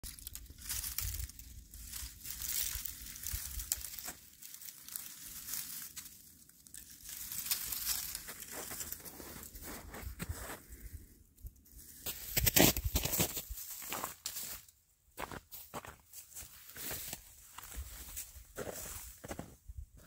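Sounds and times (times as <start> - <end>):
dry grass nest rustling and crackling: 0.0 - 10.9, 11.5 - 14.7, 16.1 - 19.2.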